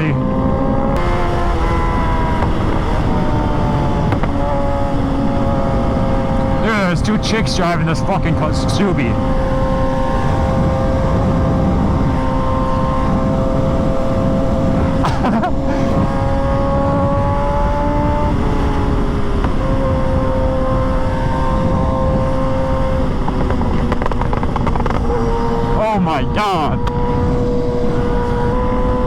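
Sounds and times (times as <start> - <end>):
motorcycle engine running: 0.7 - 29.0
heavy low rumble: 0.9 - 28.6.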